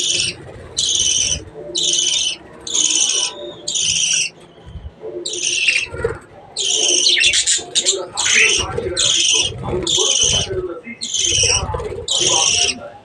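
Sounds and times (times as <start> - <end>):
budgerigars calling: 0.0 - 12.8.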